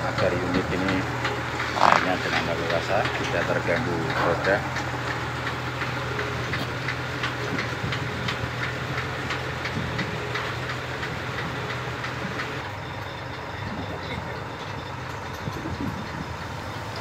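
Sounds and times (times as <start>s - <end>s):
heavy engine idling: 0.0s - 17.0s
chain hoist clicking: 0.1s - 13.8s.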